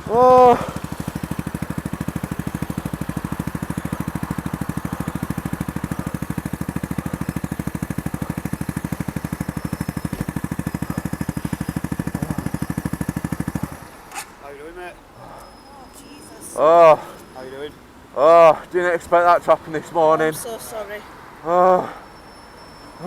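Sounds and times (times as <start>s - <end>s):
motorcycle engine idling: 0.0s - 18.5s.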